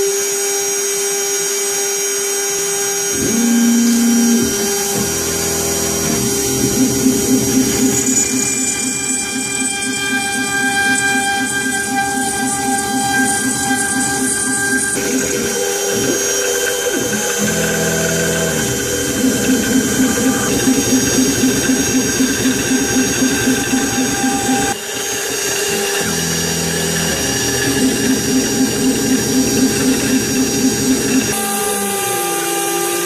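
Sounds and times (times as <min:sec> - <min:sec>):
router spindle high whine: 0:00.0 - 0:33.0
deep machine tone: 0:03.0 - 0:33.0
rapid pulsing cutting sound: 0:03.1 - 0:32.8.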